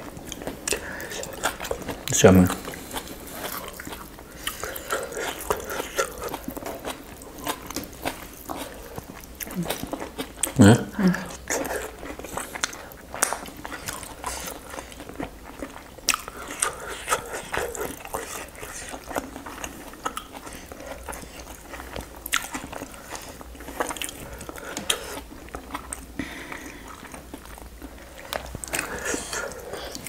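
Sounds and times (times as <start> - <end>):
chewing and lip smacking: 0.0 - 10.6, 11.3 - 30.0.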